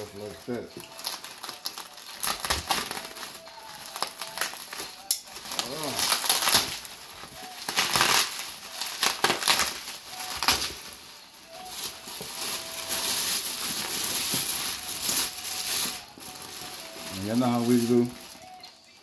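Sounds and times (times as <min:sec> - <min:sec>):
bubble wrap crinkling and rustling: 0:00.0 - 0:19.0.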